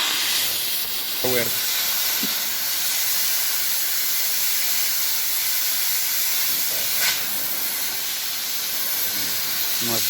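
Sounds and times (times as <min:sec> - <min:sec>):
cutting torch flame hissing: 0:00.0 - 0:10.0.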